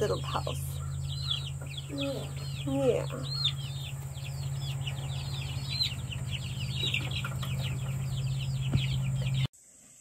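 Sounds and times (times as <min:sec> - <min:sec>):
steady low hum: 0:00.0 - 0:09.5
chicks peeping: 0:00.0 - 0:09.6.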